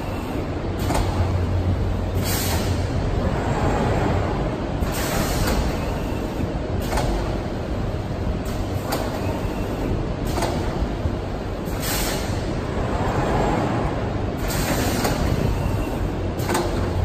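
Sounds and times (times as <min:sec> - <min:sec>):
printing machine hum: 0:00.0 - 0:17.0.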